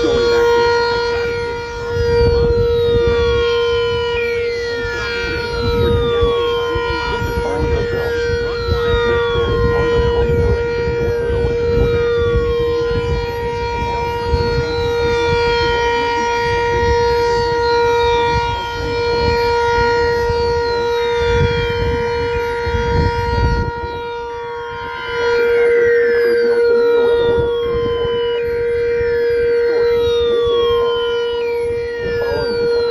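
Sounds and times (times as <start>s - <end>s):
warning siren steady tone: 0.0s - 32.9s.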